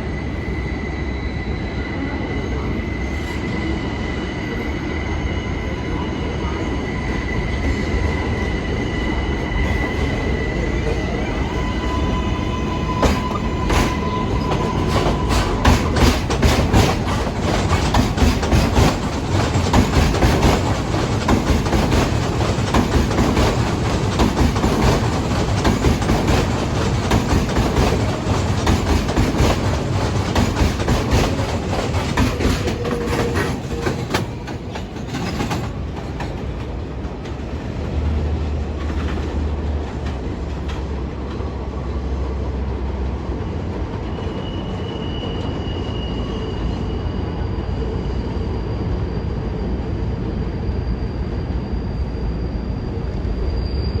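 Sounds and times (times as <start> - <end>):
subway train wheels clacking: 0.0 - 54.0.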